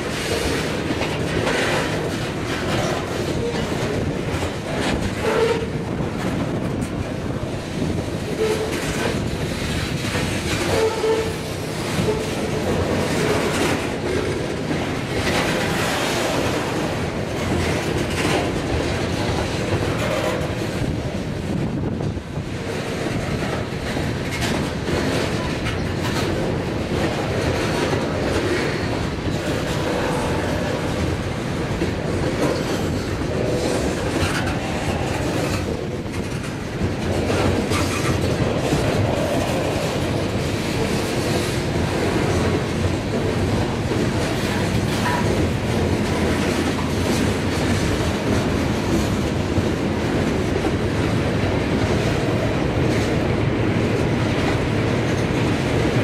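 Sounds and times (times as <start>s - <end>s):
freight train wheels rumbling: 0.0s - 56.0s
wheels clickety-clack: 0.0s - 56.0s.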